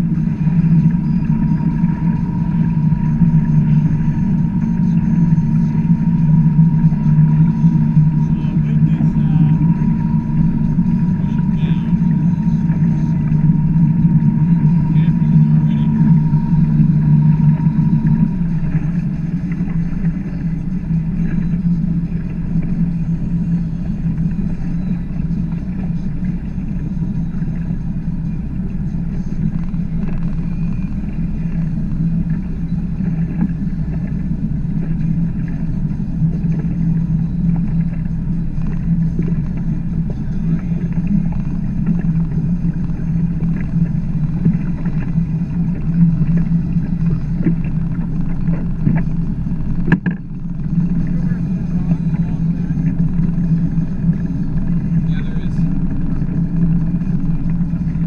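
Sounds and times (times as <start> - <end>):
boat engine droning: 0.0 - 58.0
hull hissing through water: 0.0 - 58.0.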